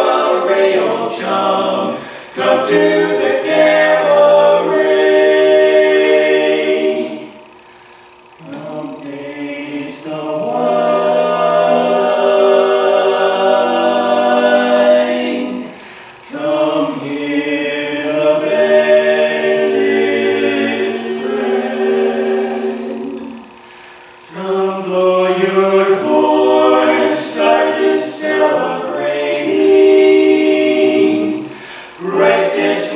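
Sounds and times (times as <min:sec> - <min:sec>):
male quartet singing a cappella: 0:00.0 - 0:32.9.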